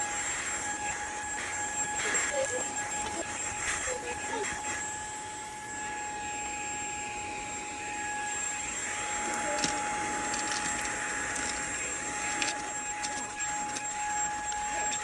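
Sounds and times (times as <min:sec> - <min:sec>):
handheld vacuum motor whine: 0:00.0 - 0:15.0.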